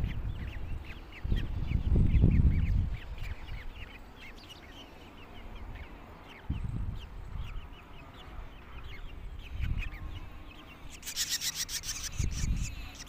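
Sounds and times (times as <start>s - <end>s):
nestlings chirping: 0.0s - 13.0s.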